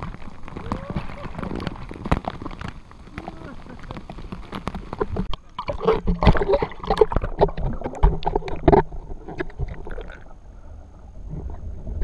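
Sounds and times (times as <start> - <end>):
bubbling underwater: 0.0 - 12.0
water splashing and gurgling: 0.0 - 12.0.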